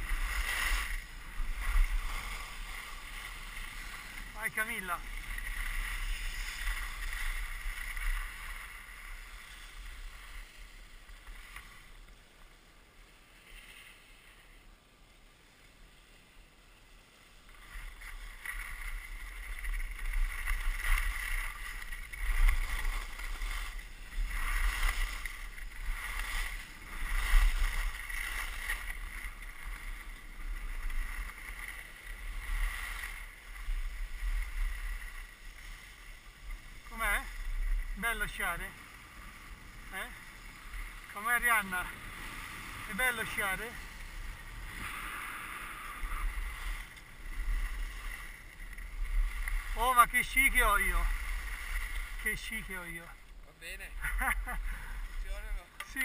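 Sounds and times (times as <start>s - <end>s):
skis scraping on snow: 0.0s - 56.0s.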